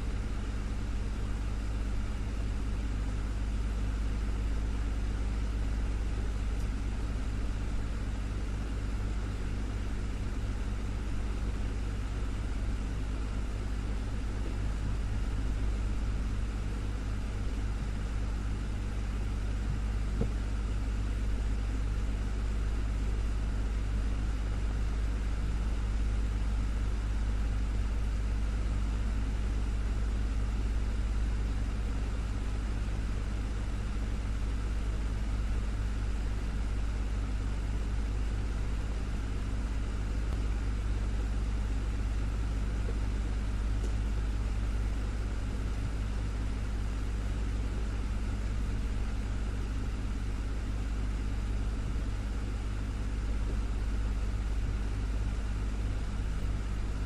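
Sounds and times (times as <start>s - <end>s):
desktop fan running: 0.0s - 57.0s.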